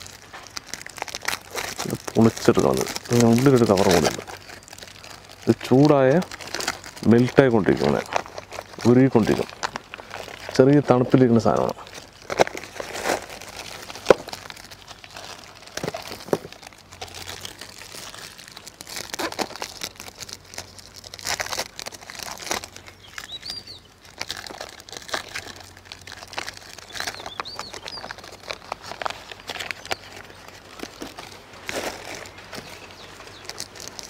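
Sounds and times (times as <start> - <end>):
wrappers crinkling and tearing: 0.0 - 34.0.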